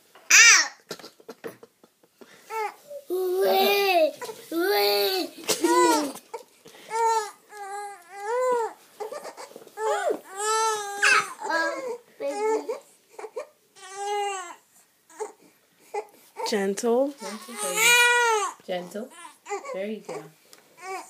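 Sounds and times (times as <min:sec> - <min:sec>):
infant crying: 0:02.5 - 0:06.2, 0:06.8 - 0:16.5, 0:17.2 - 0:21.0.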